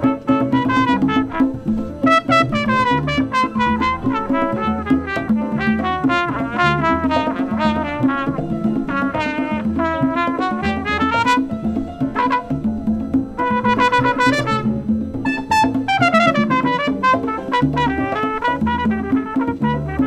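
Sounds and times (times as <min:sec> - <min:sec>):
congas: 0:00.0 - 0:20.0
flugelhorn jazz solo: 0:00.0 - 0:20.0
keyboard: 0:00.0 - 0:20.0
upright double bass: 0:00.0 - 0:20.0.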